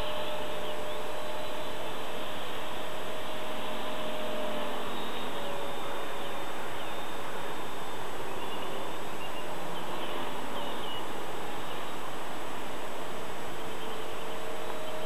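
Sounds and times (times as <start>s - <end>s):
rc helicopter rotor whine: 0.0s - 12.2s
steady rushing noise: 0.0s - 15.0s.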